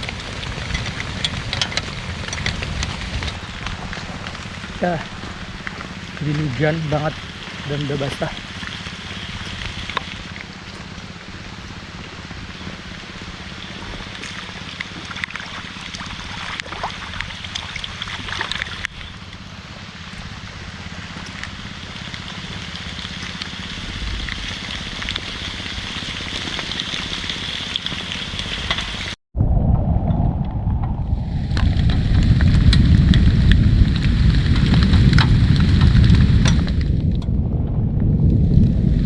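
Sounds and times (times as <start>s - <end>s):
heavy rain falling: 0.0s - 29.2s, 30.4s - 39.0s.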